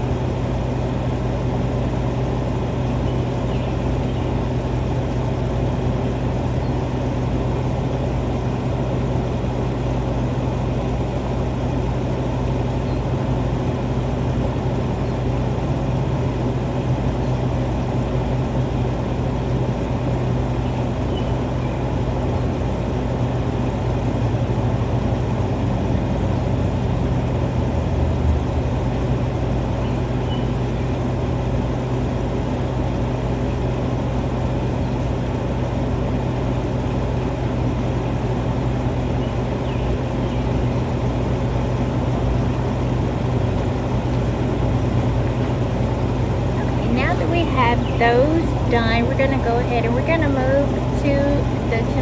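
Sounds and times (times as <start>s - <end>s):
low motor hum: 0.0s - 52.0s.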